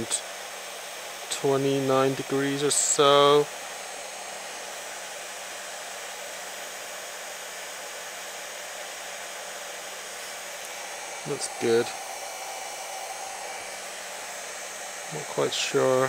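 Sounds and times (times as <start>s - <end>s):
spindle motor running: 0.0s - 16.0s.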